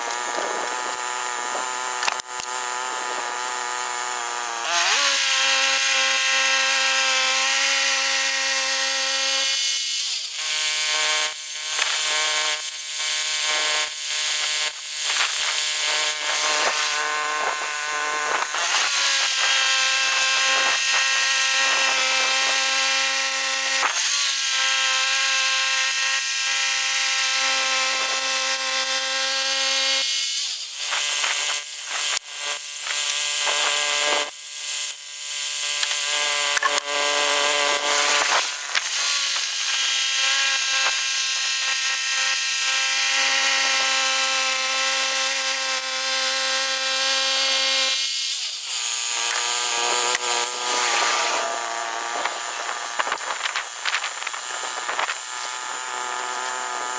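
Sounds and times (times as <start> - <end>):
bandsaw mill engine sawing log: 0.0 - 56.9.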